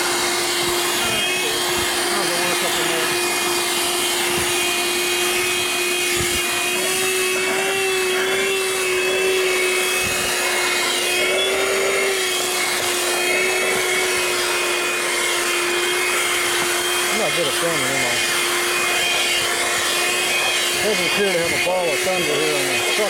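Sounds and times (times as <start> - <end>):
handheld vacuum motor hum: 0.0 - 23.0.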